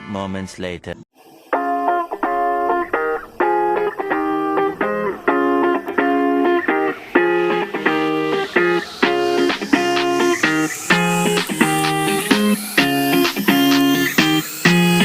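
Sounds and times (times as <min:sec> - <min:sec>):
guitar playing short chords: 0:01.5 - 0:15.0.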